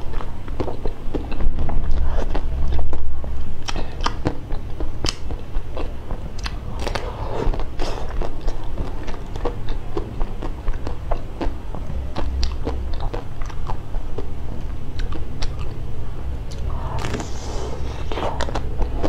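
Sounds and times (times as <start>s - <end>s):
chewing chocolate bar: 0.0s - 15.8s.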